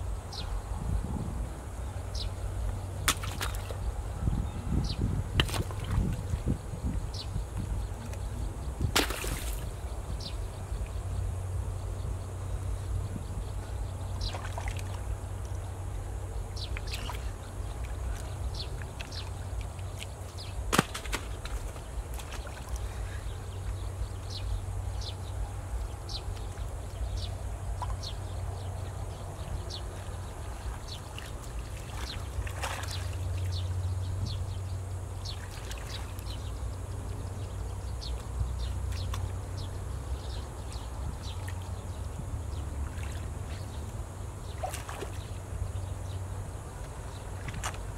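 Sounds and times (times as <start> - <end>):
steady low rumble: 0.0 - 47.9
water sloshing and trickling: 1.4 - 47.9.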